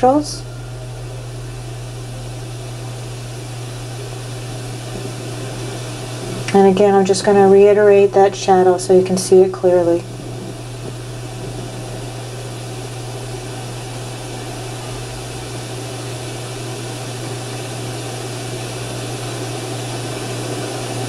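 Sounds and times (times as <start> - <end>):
even hiss: 0.0 - 21.0
low hum: 0.0 - 21.0.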